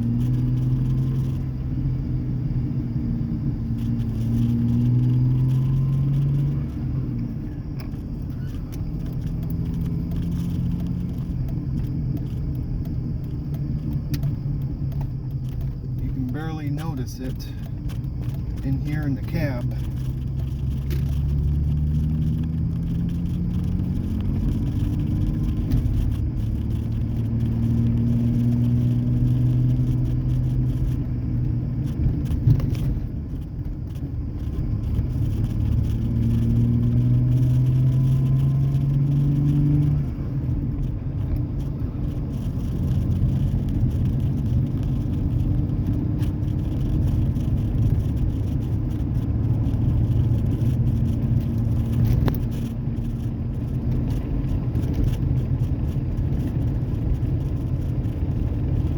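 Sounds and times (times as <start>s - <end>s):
engine exhaust drone from inside cab: 0.0s - 58.9s.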